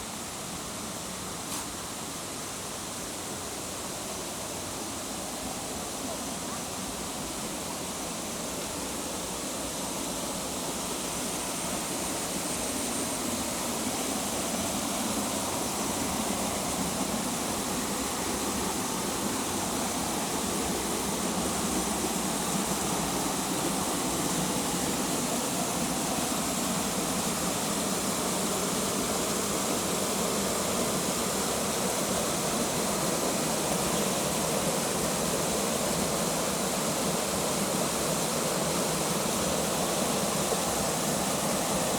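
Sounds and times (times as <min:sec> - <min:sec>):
waterfall rushing: 0:01.7 - 0:41.9.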